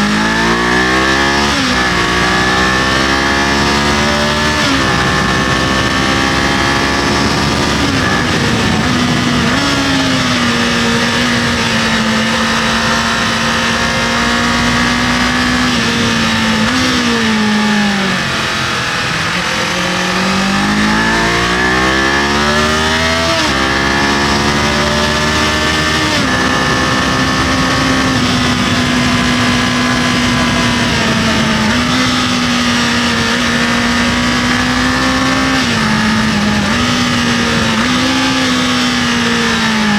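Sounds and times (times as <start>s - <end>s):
motorcycle engine cruising: 0.0s - 39.9s
road noise: 0.0s - 39.9s
wind noise: 0.0s - 39.9s.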